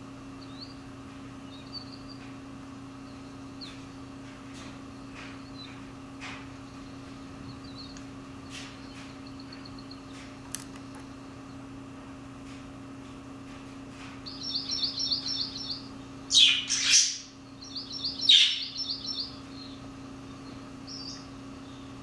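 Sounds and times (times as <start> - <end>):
recorded birdsong trills: 0.0 - 12.0, 14.1 - 22.0
harsh bird calls: 0.3 - 10.4, 14.2 - 22.0.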